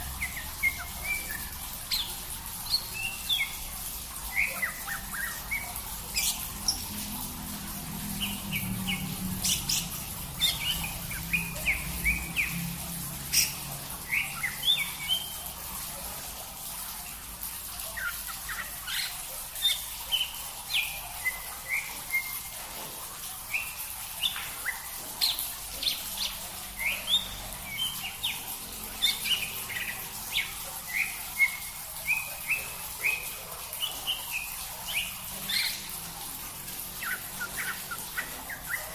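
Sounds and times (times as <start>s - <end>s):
small songbirds chirping: 0.0s - 15.8s, 23.4s - 38.9s.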